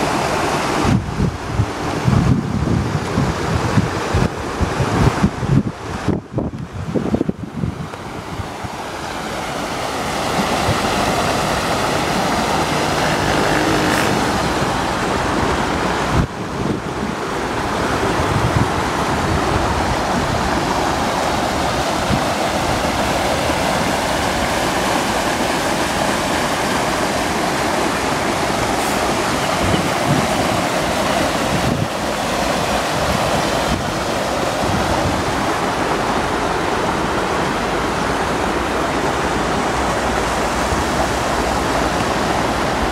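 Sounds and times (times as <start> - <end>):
floodwater rushing over stones: 0.0 - 42.9
wind buffeting microphone: 0.0 - 42.9.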